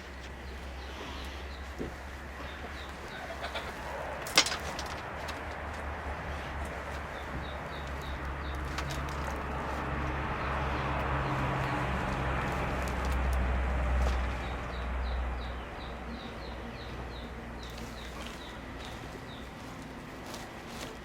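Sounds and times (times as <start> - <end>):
birds chirping: 0.0 - 13.2, 14.0 - 21.0.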